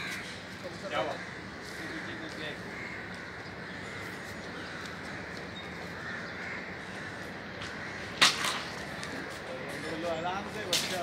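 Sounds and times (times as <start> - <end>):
crows cawing: 0.0 - 11.0
outdoor background hum: 0.0 - 11.0.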